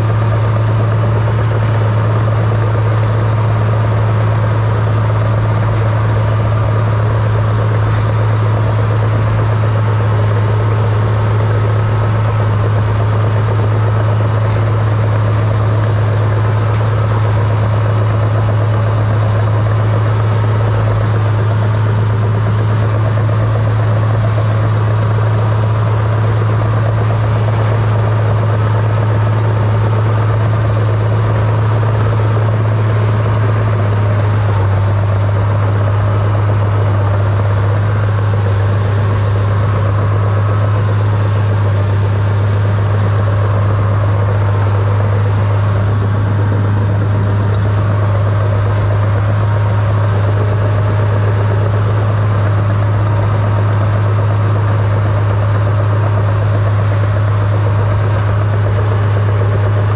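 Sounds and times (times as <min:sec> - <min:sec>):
bulldozer diesel engine droning: 0:00.0 - 0:59.9.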